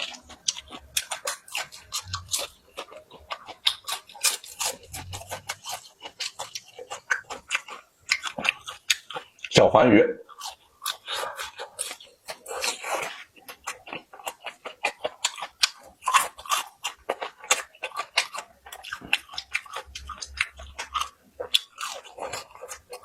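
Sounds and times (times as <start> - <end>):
crunchy chewing of fried fish: 0.0 - 9.6, 10.2 - 23.0.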